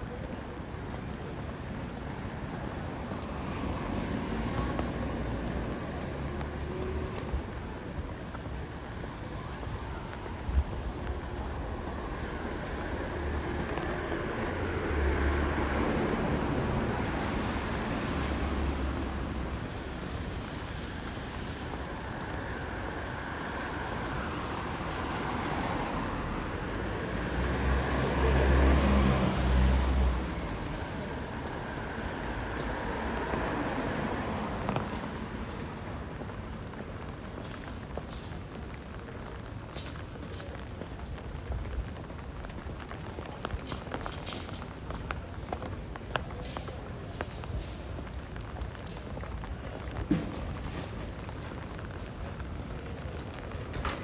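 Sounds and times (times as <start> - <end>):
steady rain: 0.0 - 54.0
vehicle passing on wet street: 0.0 - 54.0.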